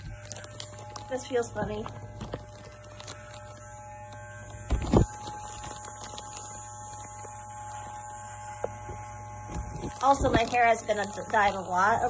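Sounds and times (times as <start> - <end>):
electric hair clippers humming: 0.0 - 12.0.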